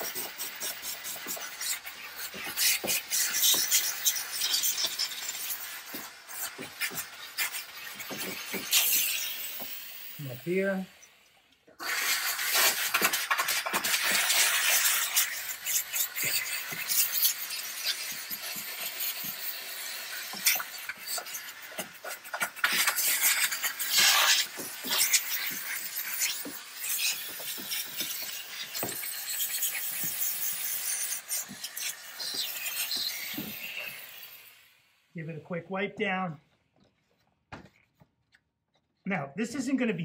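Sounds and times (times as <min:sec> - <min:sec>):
steam cleaner hissing: 0:00.0 - 0:35.1.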